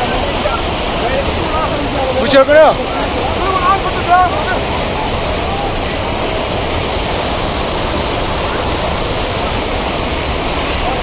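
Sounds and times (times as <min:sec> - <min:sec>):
waterfall pouring over rocks: 0:00.0 - 0:11.0.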